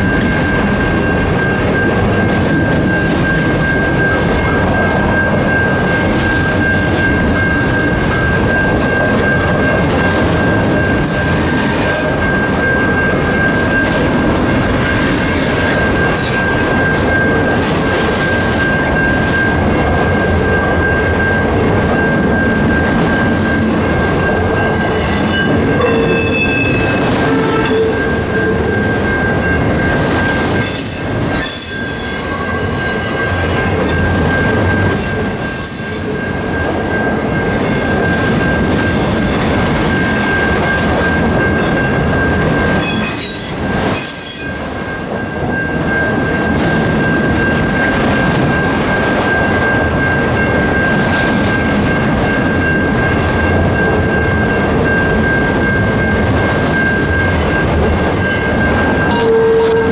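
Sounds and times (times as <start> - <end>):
steady high tone: 0.0 - 59.9
train wheels rumbling on rails: 0.0 - 59.9.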